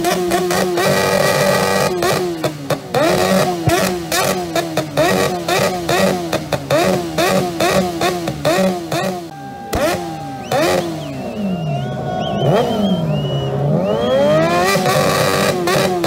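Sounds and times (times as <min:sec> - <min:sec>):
exhaust cracks: 0:00.0 - 0:14.0
motorcycle engine revving hard: 0:00.0 - 0:16.0.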